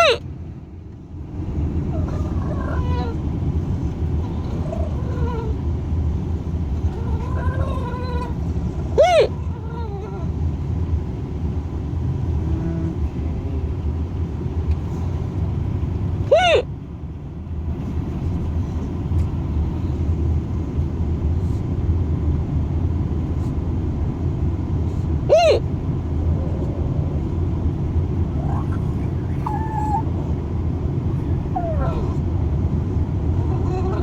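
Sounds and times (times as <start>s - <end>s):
road noise inside a car: 0.0s - 34.0s.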